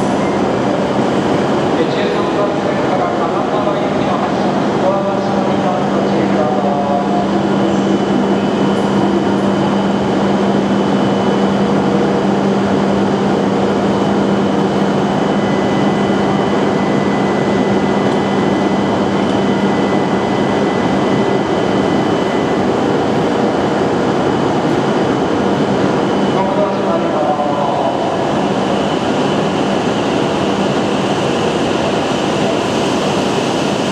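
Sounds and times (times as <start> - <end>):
train running with hum and whine: 0.0 - 33.9.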